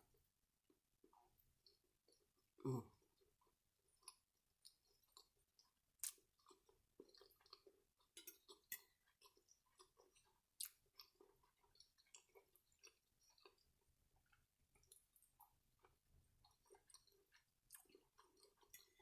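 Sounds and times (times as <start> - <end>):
close-miked chewing: 1.0 - 19.0.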